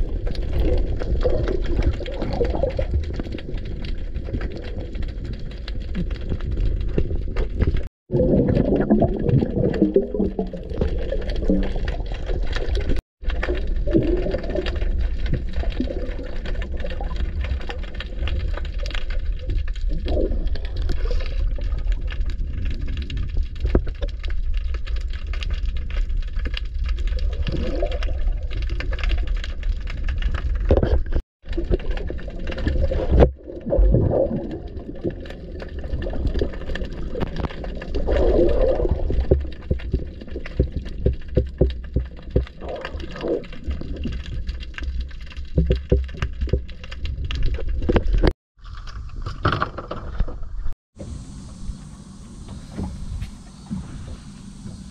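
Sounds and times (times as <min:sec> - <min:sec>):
underwater low rumble: 0:00.0 - 0:48.3, 0:50.1 - 0:54.9
muffled water sloshing and bubbling: 0:00.0 - 0:54.9.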